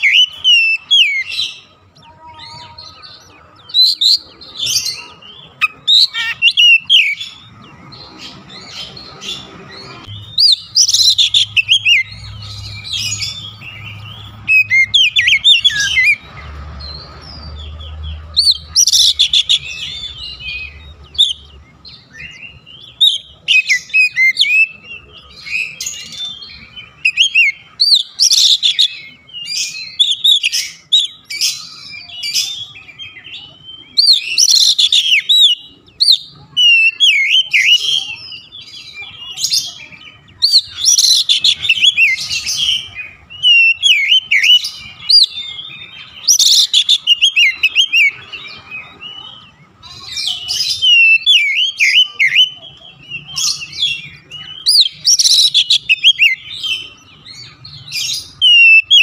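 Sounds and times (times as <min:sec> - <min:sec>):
bird singing whistled notes: 0:00.0 - 0:01.8, 0:03.6 - 0:59.0.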